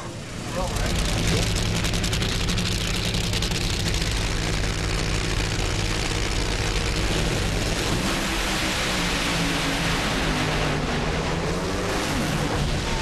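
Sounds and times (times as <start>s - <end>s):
drag racing engines roaring: 0.0s - 13.0s.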